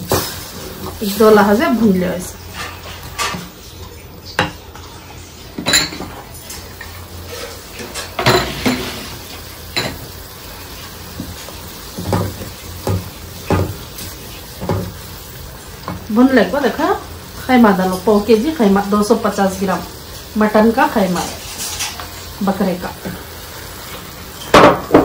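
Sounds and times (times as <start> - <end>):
faint sizzle: 0.0 - 25.0.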